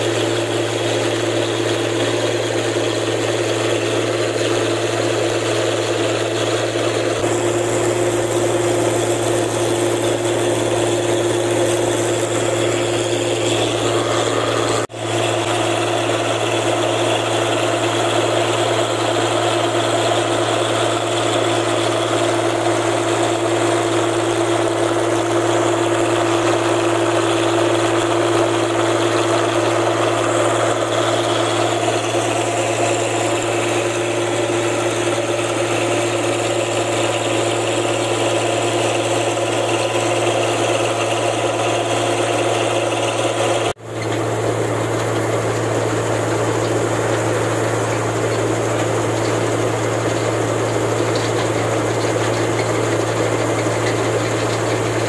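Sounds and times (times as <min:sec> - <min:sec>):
combine harvester humming: 0:00.0 - 0:55.0.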